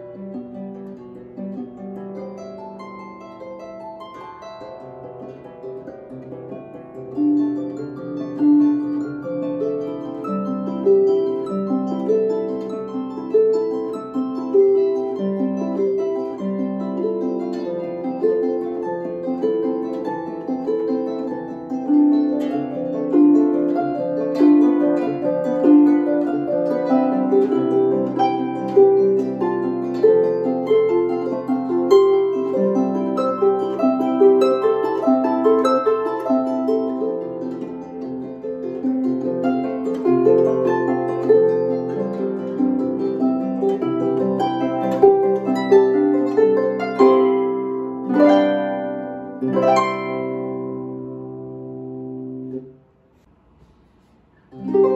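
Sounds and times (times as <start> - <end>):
harp playing broken chords: 0.0 - 54.9.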